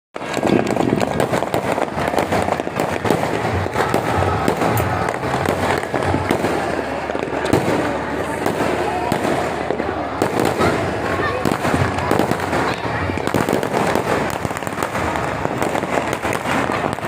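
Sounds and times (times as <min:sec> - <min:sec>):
fireworks crackling pops: 0:00.2 - 0:17.0.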